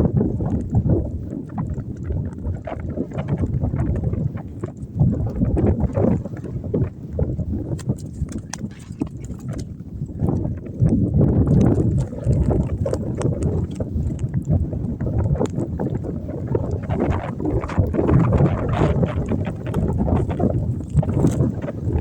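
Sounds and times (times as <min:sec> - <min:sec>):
crackles: 0:00.0 - 0:22.0
wind buffeting microphone: 0:00.0 - 0:22.0.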